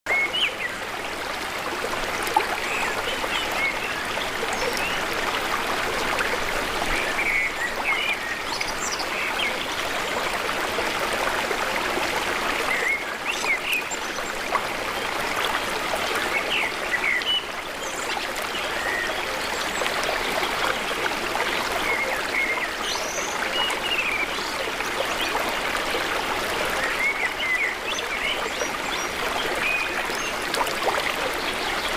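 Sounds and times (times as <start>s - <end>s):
water trickling: 0.3s - 31.9s.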